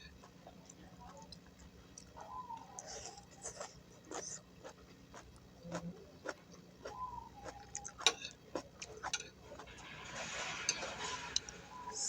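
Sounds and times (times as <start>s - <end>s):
chewing: 0.0s - 9.8s.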